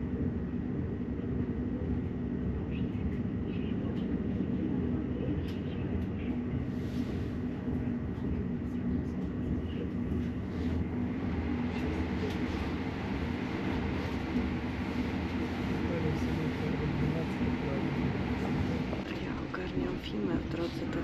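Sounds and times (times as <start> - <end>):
train rumble inside carriage: 0.0 - 21.0.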